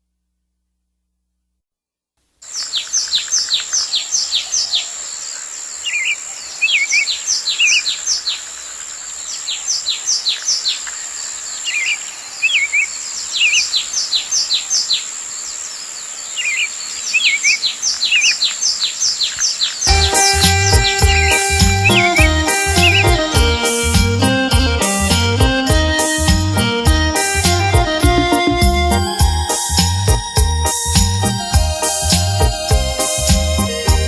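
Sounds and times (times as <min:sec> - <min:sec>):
birds chirping: 0:02.4 - 0:34.0.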